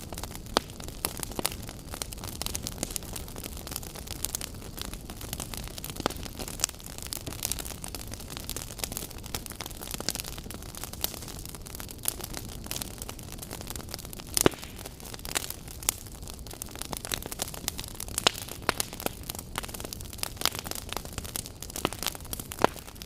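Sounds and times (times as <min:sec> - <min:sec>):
campfire crackling and popping: 0:00.0 - 0:23.0
rush of flame: 0:00.0 - 0:23.0.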